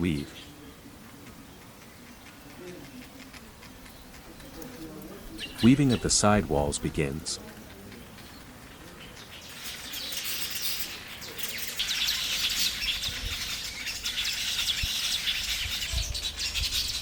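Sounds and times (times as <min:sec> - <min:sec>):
weaver birds chattering: 0:00.0 - 0:17.0.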